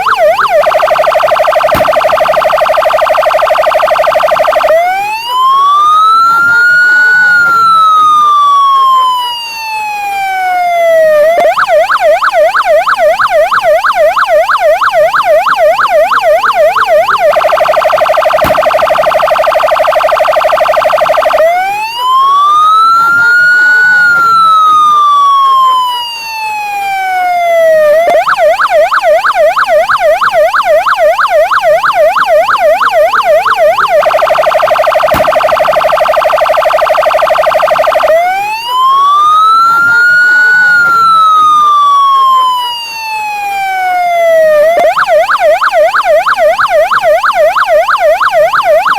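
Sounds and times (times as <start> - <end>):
police siren wail and yelp: 0.0 - 48.9.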